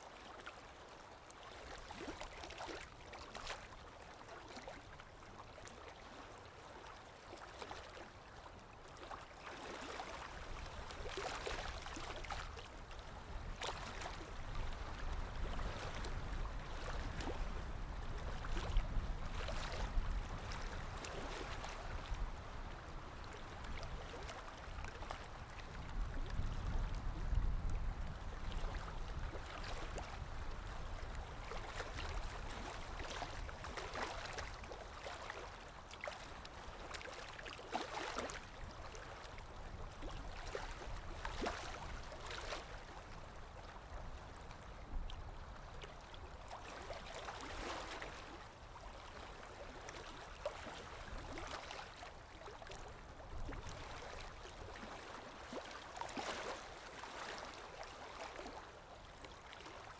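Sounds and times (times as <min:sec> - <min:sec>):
stream water splashing and gurgling: 0:00.0 - 0:59.9.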